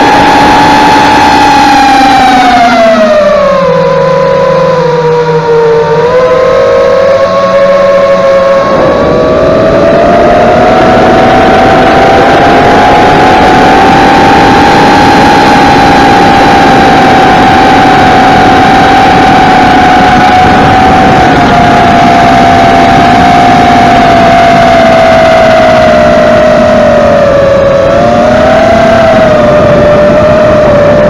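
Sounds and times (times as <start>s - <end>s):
quadcopter motors whining: 0.0s - 31.0s
rush of wind: 0.0s - 31.0s.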